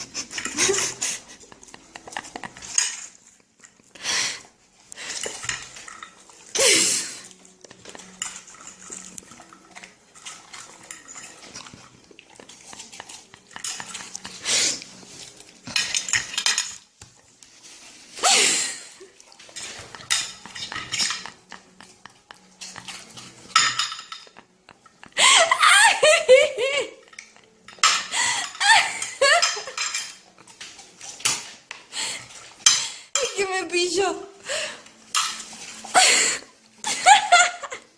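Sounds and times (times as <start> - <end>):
bowl clattering and scraping: 0.0 - 3.9, 5.0 - 25.0, 27.0 - 33.6, 34.9 - 37.6.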